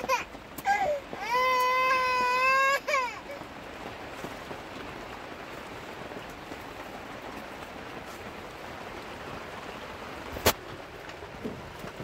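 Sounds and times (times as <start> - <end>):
rain pattering on a tent: 0.0 - 12.0.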